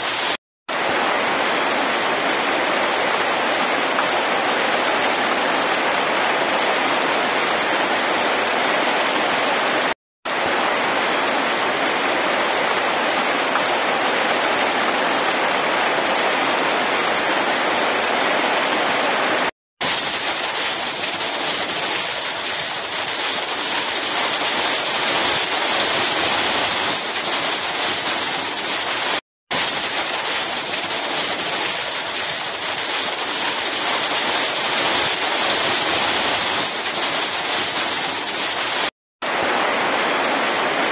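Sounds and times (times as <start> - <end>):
heavy rain on pavement and leaves: 0.0 - 40.9.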